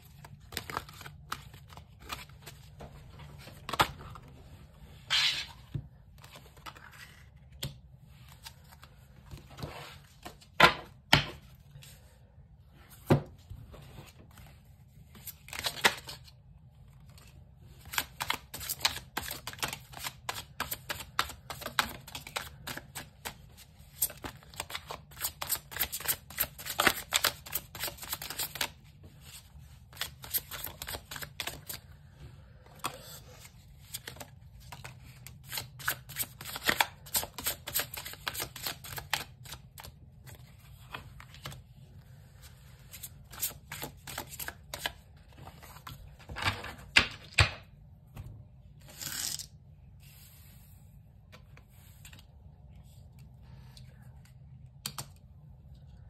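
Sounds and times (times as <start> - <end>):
cards shuffling and riffling: 0.1 - 12.0, 13.8 - 32.0, 32.7 - 47.5, 48.8 - 50.5.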